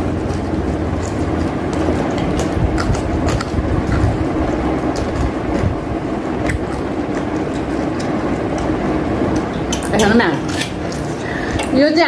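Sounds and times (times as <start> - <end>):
cucumber being bitten and chewed: 0.0 - 11.7
steady rumbling background noise: 0.0 - 12.0.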